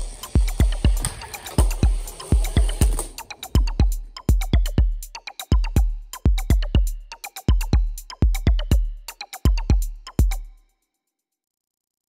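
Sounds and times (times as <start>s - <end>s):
electronic music with drum-machine beat: 0.0s - 10.6s.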